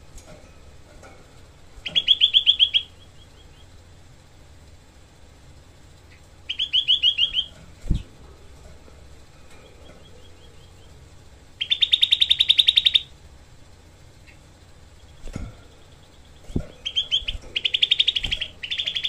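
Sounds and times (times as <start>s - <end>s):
bulbul chattering song: 1.4s - 19.0s.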